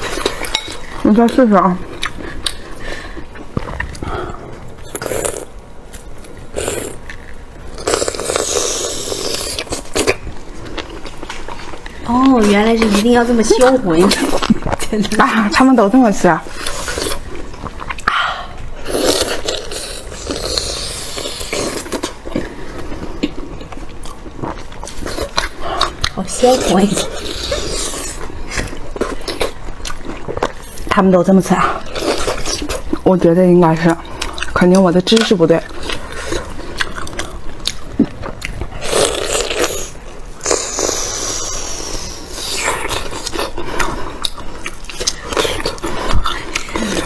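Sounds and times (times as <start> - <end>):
biting and chewing: 0.0 - 31.0, 31.6 - 47.0
person eating noisily: 0.0 - 47.0.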